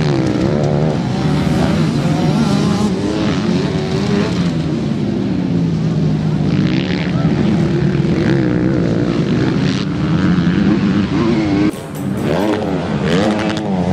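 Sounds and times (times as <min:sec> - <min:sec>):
motocross bike engines revving: 0:00.0 - 0:13.9.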